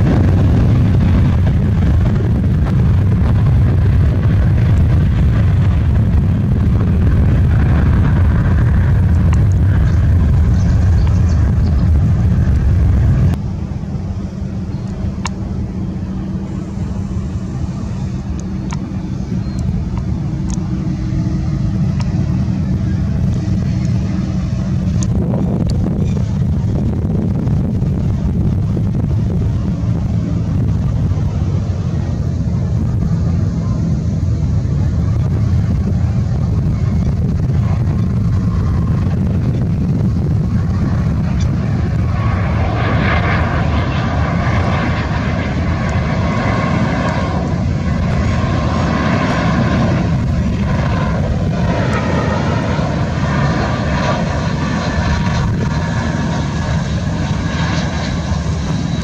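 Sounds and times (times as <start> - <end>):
jet engine whine: 0.0 - 59.0
low jet rumble: 0.0 - 59.0.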